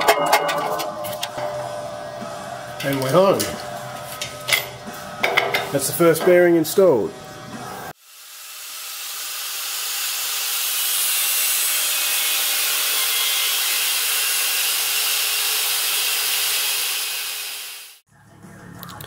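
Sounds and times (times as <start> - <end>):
grinder disc cutting steel: 0.0 - 6.5, 8.6 - 18.0.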